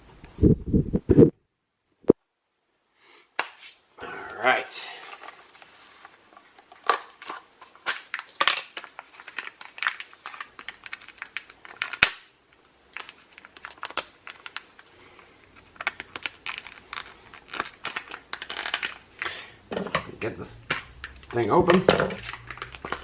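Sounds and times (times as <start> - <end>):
packaging crinkling: 4.1 - 23.0.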